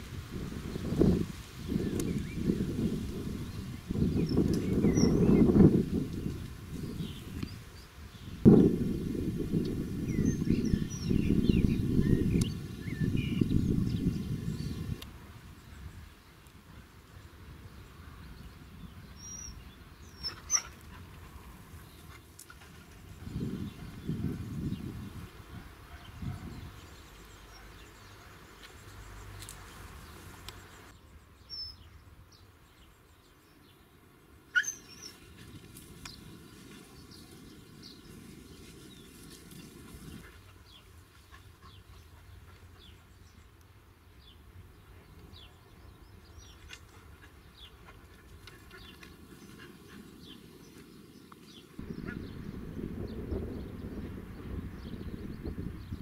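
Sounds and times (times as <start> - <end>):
wind rumbling on microphone: 0.0 - 28.1, 34.8 - 43.4, 44.2 - 56.0.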